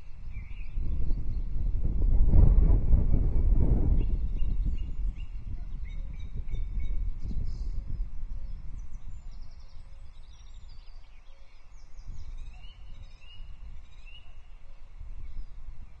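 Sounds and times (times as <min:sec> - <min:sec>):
songbirds singing and trilling: 0:00.0 - 0:16.0
wind rumble on microphone: 0:00.0 - 0:16.0.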